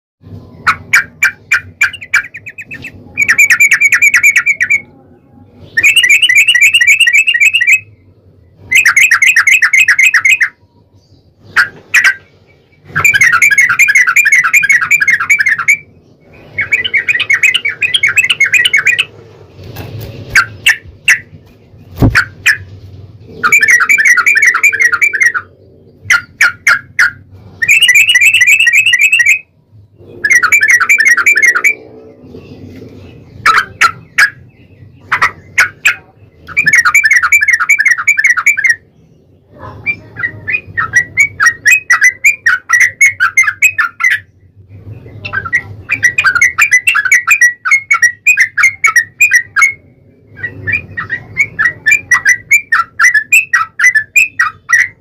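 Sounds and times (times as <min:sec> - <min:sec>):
bulbul song: 0:00.2 - 0:19.1, 0:23.3 - 0:32.7, 0:33.4 - 0:55.0.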